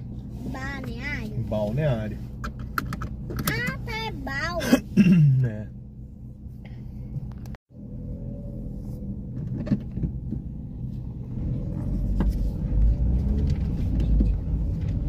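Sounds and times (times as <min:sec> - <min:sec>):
car engine idling: 0:00.0 - 0:15.0
car pulling away rumble: 0:00.0 - 0:15.0.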